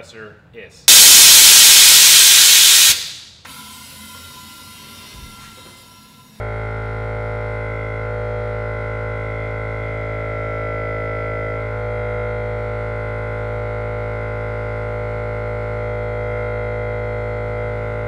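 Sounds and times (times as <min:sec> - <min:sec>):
air compressor motor drone: 0:00.9 - 0:18.0.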